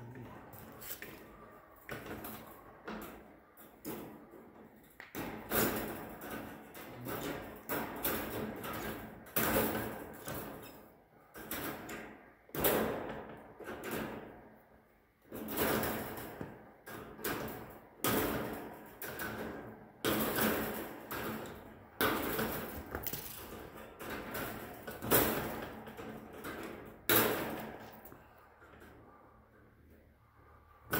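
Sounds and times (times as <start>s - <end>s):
wire mesh clanking: 2.0s - 14.5s, 15.2s - 28.0s.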